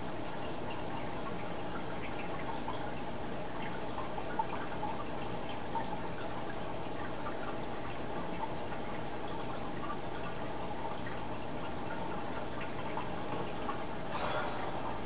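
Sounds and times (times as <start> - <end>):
aquarium water trickling: 0.0 - 15.0.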